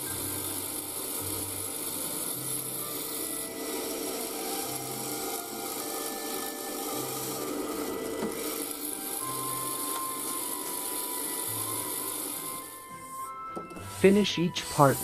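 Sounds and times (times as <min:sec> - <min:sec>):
chisel rasping through wood: 0:00.0 - 0:15.0.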